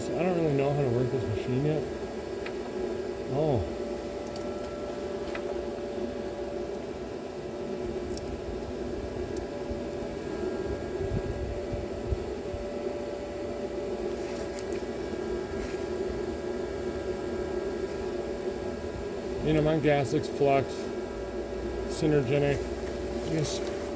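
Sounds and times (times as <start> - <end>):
welder cooling fan hum: 0.0 - 23.9.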